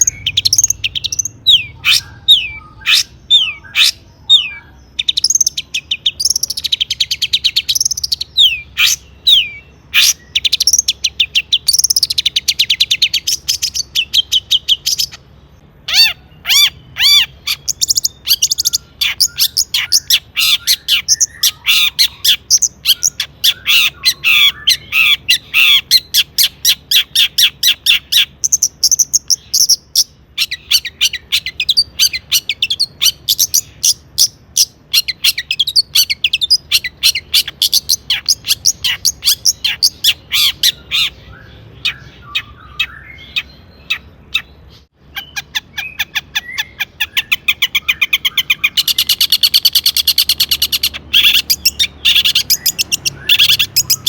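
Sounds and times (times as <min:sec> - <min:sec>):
shrike singing trills and whistles: 0:00.0 - 0:54.0.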